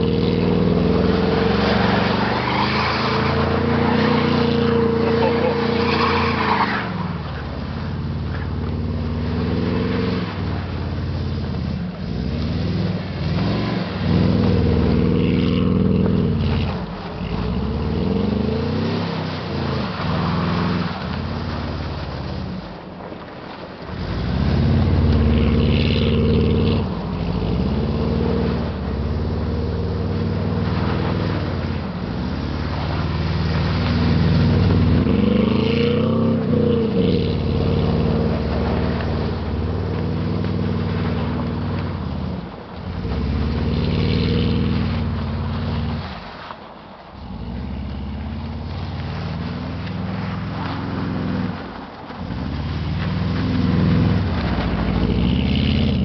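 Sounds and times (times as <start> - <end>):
car engine revving: 0.0 - 22.6, 23.9 - 46.2, 47.2 - 56.0.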